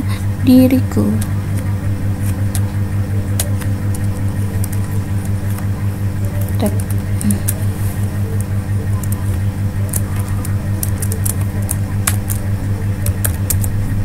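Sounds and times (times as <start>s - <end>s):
pulsing mechanical hum: 0.0s - 14.0s.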